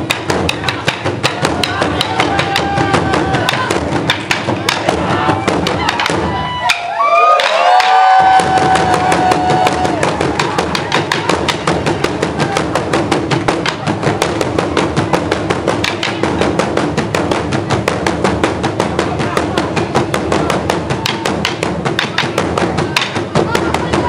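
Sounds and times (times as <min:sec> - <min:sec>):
wooden drums beaten with sticks: 0:00.0 - 0:24.0.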